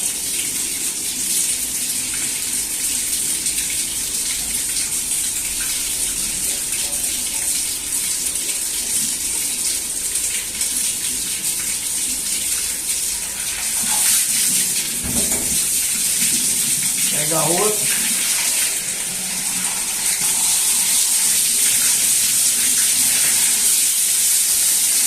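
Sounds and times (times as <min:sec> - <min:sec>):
water rushing from pipe: 0:00.0 - 0:25.0.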